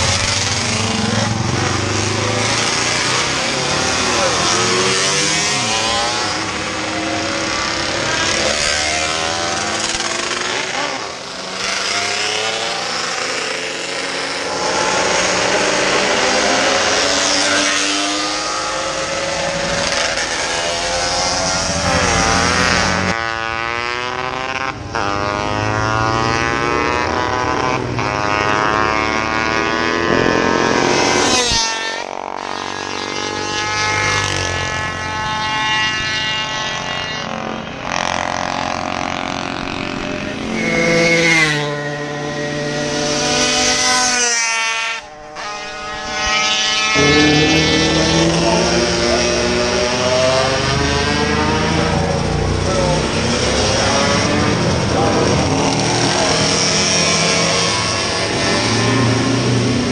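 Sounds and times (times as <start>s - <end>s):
racing motorcycles passing: 0.0s - 59.9s.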